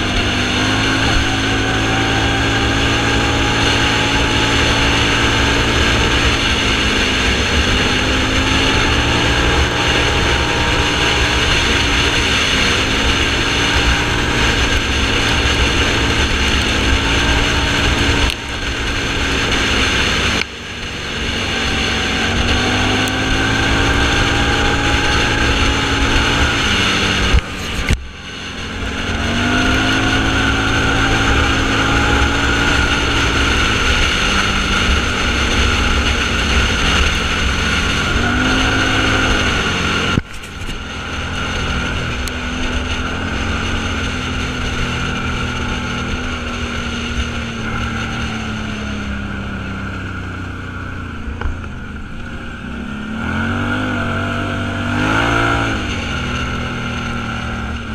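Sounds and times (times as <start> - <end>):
off-road vehicle engine running: 0.0 - 57.9.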